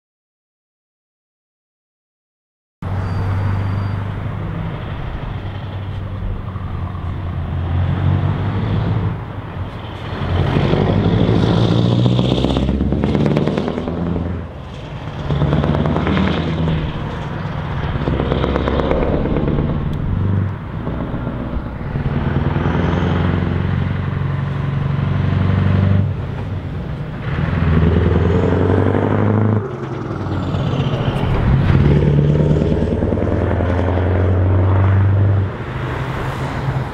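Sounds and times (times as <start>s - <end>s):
truck engines accelerating: 2.8s - 36.9s.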